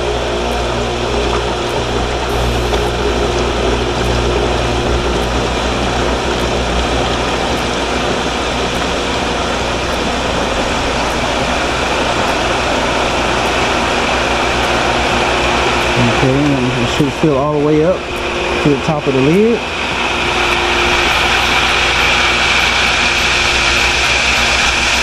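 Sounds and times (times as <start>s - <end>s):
low hum: 0.0s - 25.0s
pool pump motor running: 0.0s - 25.0s
water rushing: 1.8s - 25.0s.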